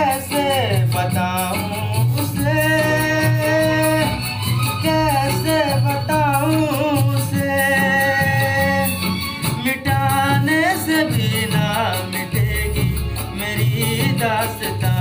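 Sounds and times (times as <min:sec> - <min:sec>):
film song with sliding melody: 0:00.0 - 0:15.0.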